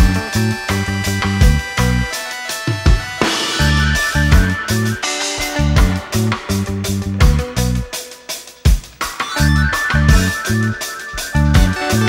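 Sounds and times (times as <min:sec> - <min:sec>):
instrumental music with drums and bass: 0:00.0 - 0:12.0.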